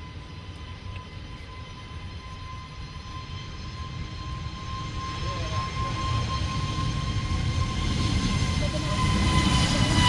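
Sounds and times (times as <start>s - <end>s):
jet engines rumbling and whining: 0.0s - 10.0s.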